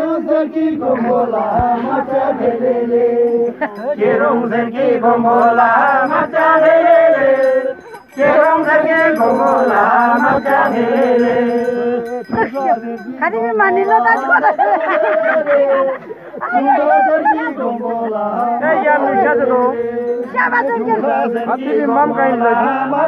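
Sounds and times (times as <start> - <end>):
group singing in unison: 0.0 - 23.0.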